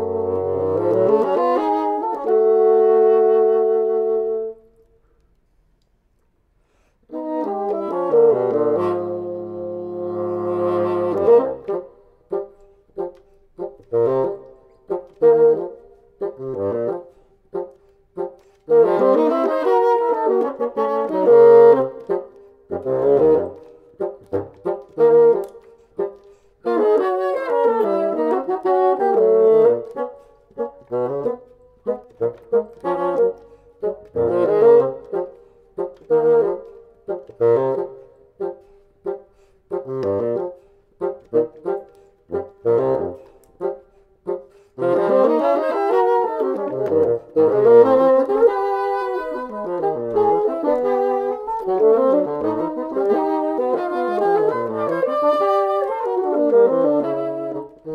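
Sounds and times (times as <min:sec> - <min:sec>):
bassoon duet: 0:00.0 - 0:04.9, 0:06.7 - 0:57.9.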